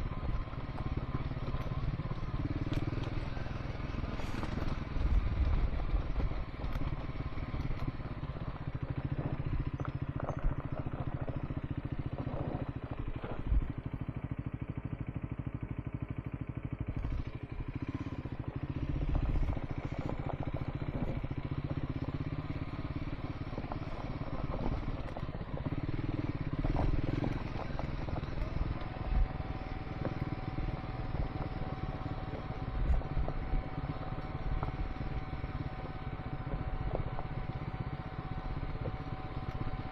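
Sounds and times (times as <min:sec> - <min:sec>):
motorcycle engine running: 0:00.0 - 0:39.9
knocks and clatter on gravel: 0:00.1 - 0:14.3, 0:17.0 - 0:39.9.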